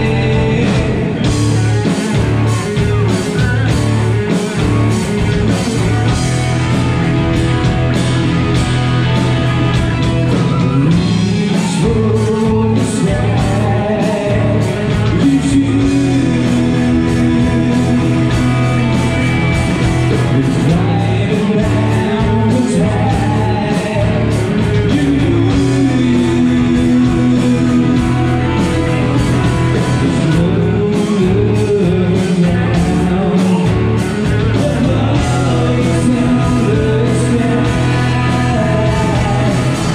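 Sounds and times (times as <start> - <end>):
bass guitar: 0.0 - 39.9
drum kit: 0.0 - 39.9
electric guitars: 0.0 - 39.9
person singing: 0.0 - 39.9.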